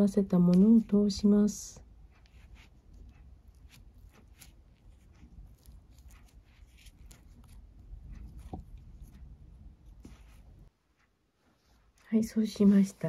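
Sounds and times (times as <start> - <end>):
cord rustling and scraping: 2.0 - 13.0.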